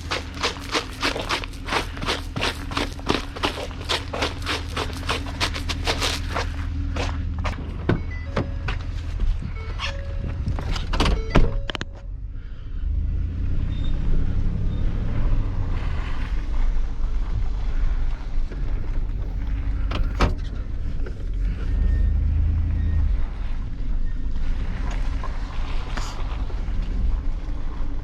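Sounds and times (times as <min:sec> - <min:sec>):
truck engine rumbling: 0:00.0 - 0:28.0.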